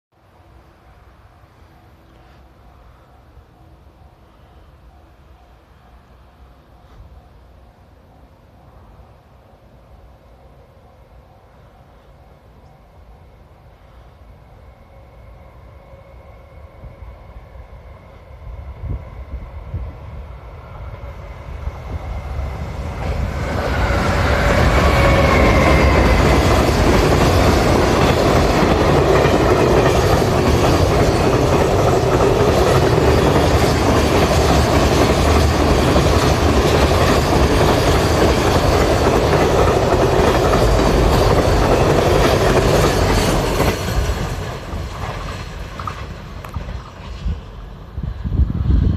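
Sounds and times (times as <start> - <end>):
freight train passing: 0.1 - 48.9.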